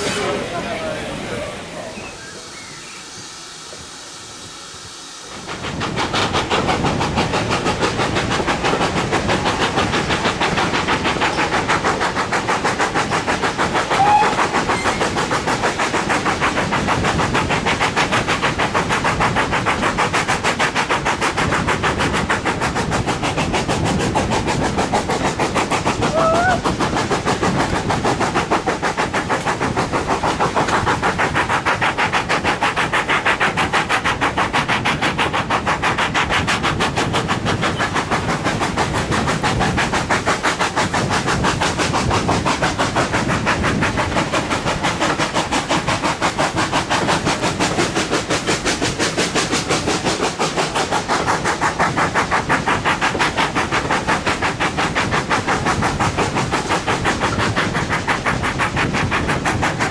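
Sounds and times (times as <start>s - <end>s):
steam locomotive exhaust chuffs: 0.0s - 59.9s
train wheels running: 0.0s - 59.9s
wind: 0.0s - 59.9s.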